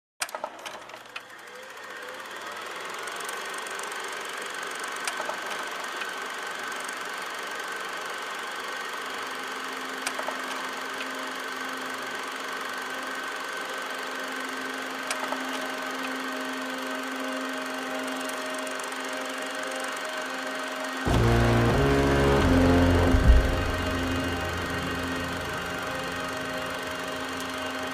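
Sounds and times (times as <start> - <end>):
droning hum with hiss: 1.8 - 27.9.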